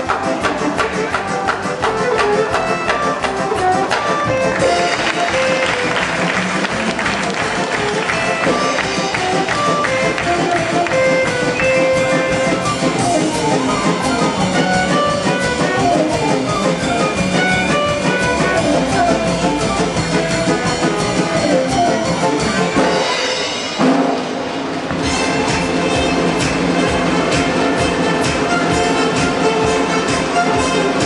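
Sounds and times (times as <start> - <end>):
show music: 0.0 - 31.0.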